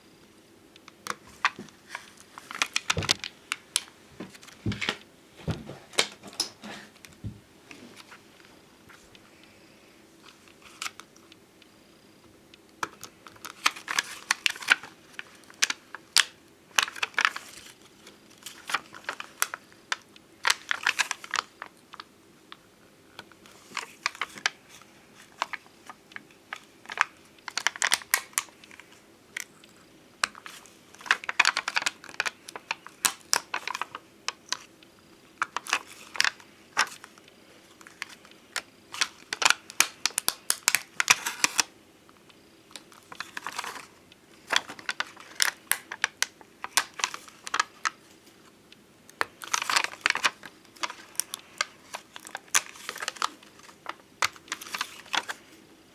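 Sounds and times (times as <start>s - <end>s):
stickers clicking and crinkling: 1.0s - 5.0s, 10.2s - 11.4s, 12.5s - 55.6s.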